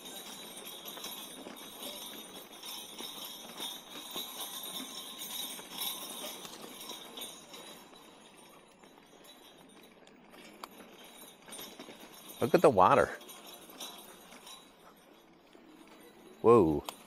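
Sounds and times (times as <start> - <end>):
electric trike rattling and jingling: 0.0 - 17.0.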